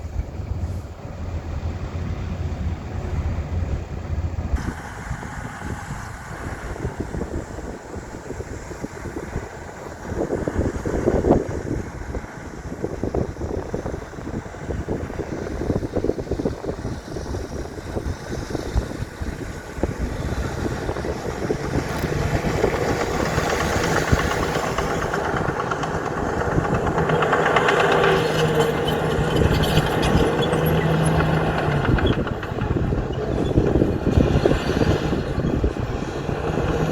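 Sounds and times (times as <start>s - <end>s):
heavy machinery diesel engine: 0.0s - 36.9s
machinery clatter: 1.8s - 36.9s.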